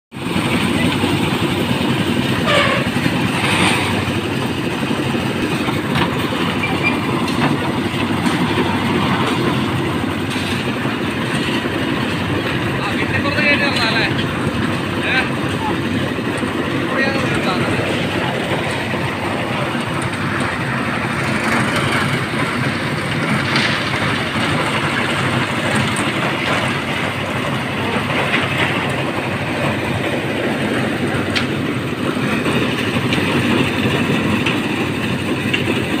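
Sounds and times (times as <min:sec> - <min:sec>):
concrete mixing machinery: 0:00.2 - 0:36.0.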